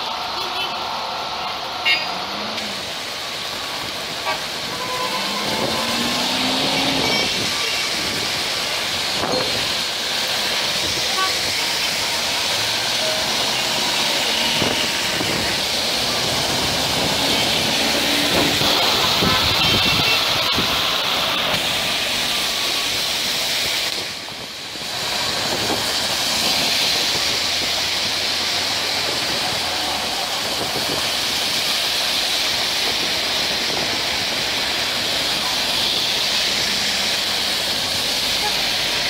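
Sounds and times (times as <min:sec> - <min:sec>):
car tyres swishing on wet road: 0:00.0 - 0:39.0
heavy rain falling: 0:00.0 - 0:39.0.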